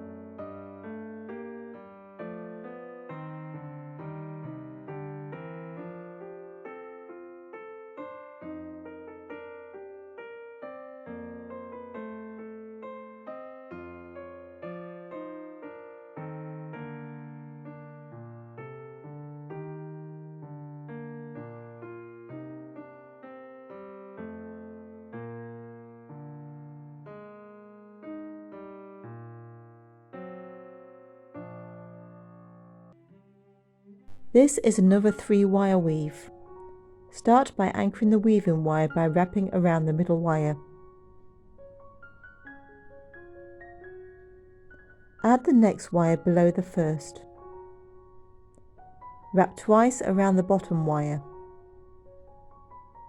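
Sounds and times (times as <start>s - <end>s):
gentle piano-like keyboard tune: 0.0s - 33.0s, 34.1s - 53.0s.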